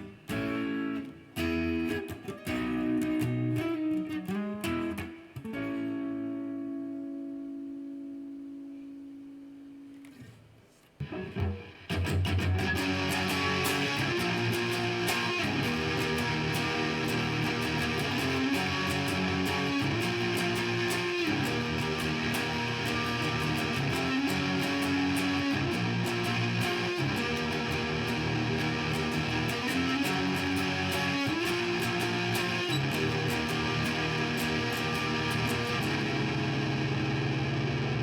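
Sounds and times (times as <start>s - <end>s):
electric guitar strumming chords: 0.0s - 10.0s, 11.0s - 38.0s
electric guitar plucks: 0.0s - 10.3s, 11.0s - 38.0s.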